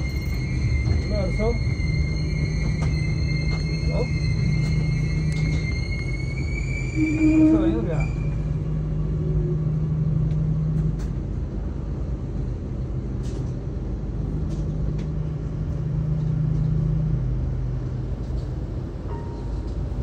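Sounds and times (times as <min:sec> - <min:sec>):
low hum: 0:00.0 - 0:20.0
train rumble: 0:00.0 - 0:20.0.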